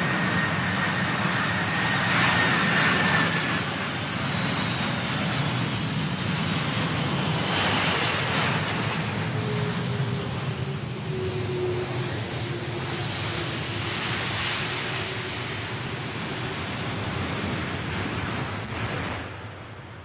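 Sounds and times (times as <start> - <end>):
jet engines rushing and whining: 0.0 - 20.0.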